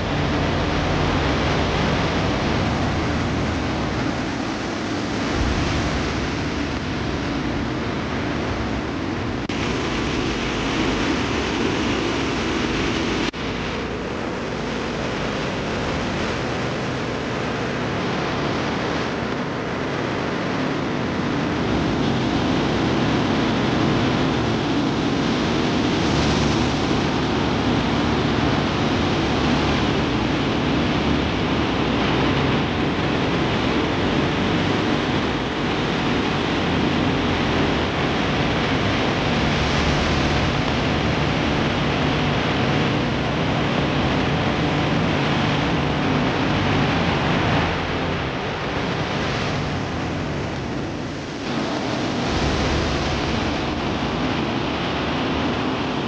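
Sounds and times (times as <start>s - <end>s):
floodwater rushing in a river: 0.0s - 56.0s.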